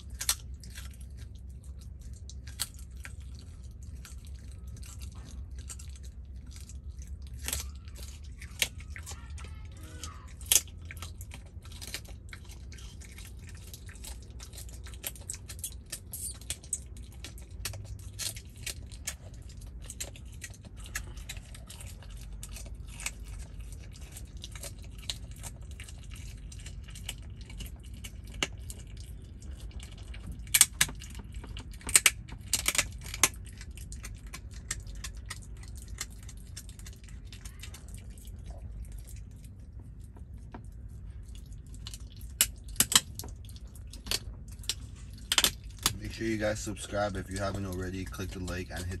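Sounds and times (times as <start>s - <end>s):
fox crunching bones: 0.0s - 49.0s
low steady rumble: 0.0s - 49.0s.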